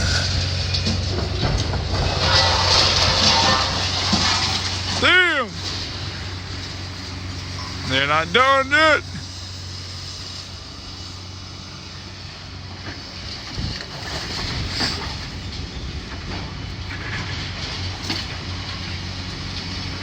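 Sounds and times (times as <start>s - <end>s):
debris clanking and scraping: 0.0s - 9.7s, 12.8s - 20.0s
demolition machinery engine hum: 0.0s - 20.0s.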